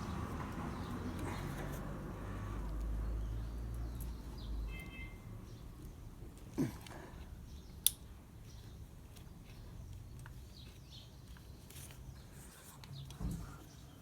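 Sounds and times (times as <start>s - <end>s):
handling ticks and rustles: 0.0s - 14.0s.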